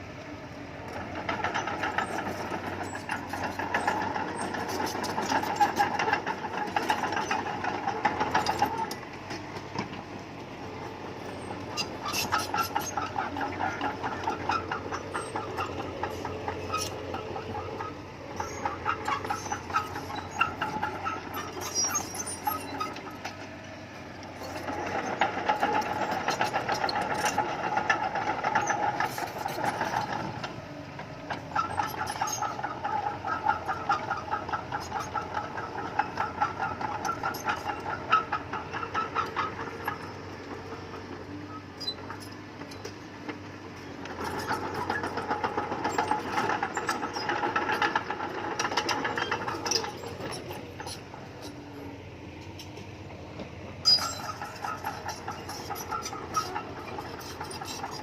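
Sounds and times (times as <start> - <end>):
bulldozer diesel engine knocking: 0.0 - 58.0.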